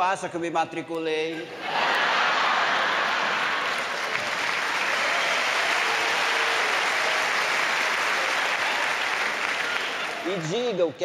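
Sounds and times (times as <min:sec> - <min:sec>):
audience applauding: 0:01.8 - 0:10.8.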